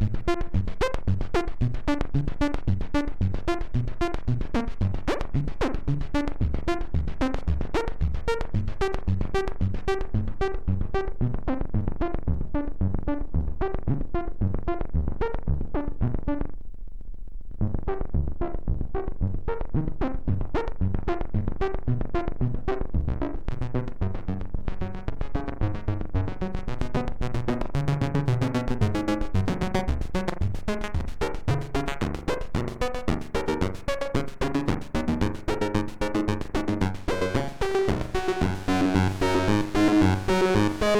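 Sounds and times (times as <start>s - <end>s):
synthesizer pulsing notes: 0.0s - 16.6s, 17.6s - 40.9s.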